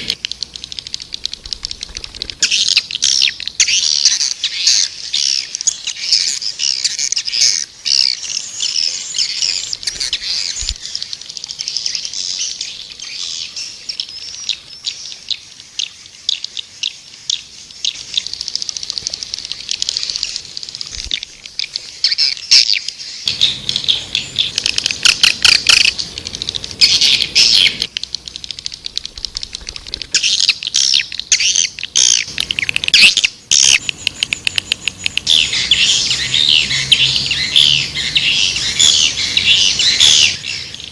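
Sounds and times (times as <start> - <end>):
swiftlets twittering: 0.0 - 12.6, 17.7 - 40.9.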